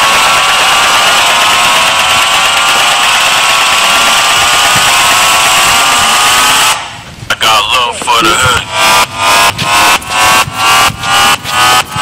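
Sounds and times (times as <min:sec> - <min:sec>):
distorted buzzing synth chord: 0:00.0 - 0:07.1, 0:08.2 - 0:12.0.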